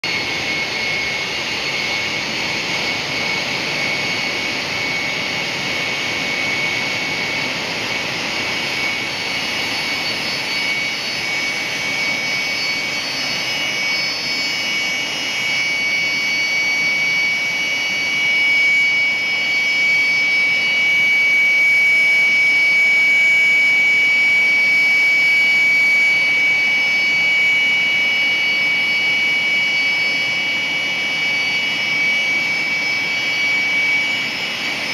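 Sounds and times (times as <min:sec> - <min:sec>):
gas turbine engine roaring: 0:00.0 - 0:34.9
high turbine whine: 0:00.0 - 0:34.9.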